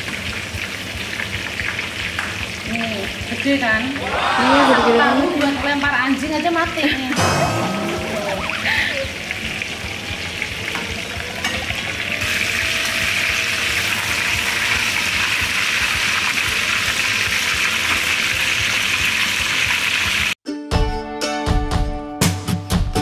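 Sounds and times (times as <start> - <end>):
food deep-frying in oil: 0.0 - 4.1, 5.3 - 20.4.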